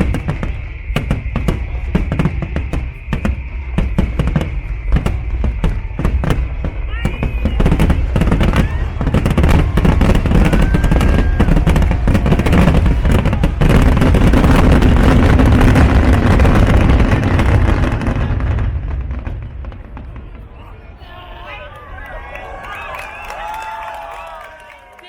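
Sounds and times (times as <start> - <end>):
firework whistle: 0.0 - 20.3
fireworks cracks and bangs: 0.0 - 25.0.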